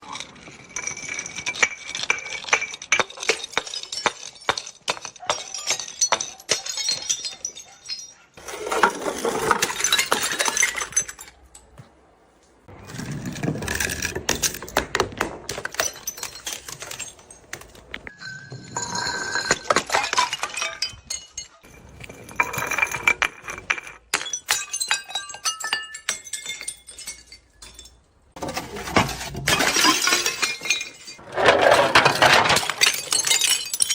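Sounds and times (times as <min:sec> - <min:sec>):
glass bottles shattering: 0:00.0 - 0:11.7, 0:12.8 - 0:33.9
glass shards clinking: 0:00.0 - 0:11.7, 0:15.5 - 0:33.9.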